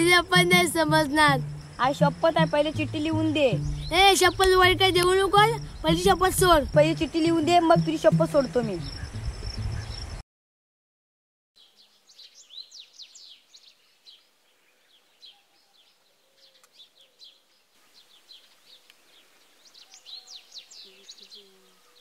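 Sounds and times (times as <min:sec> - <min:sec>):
small birds chirping: 0:00.0 - 0:10.2, 0:11.6 - 0:22.0.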